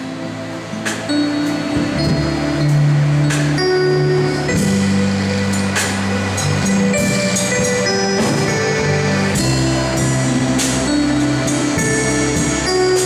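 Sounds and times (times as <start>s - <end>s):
instrumental music with drum beat: 0.0s - 13.0s.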